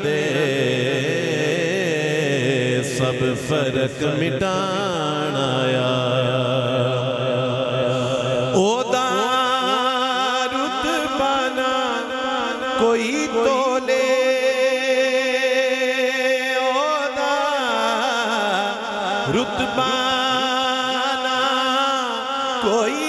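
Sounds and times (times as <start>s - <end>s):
man singing into a microphone: 0.0s - 23.0s.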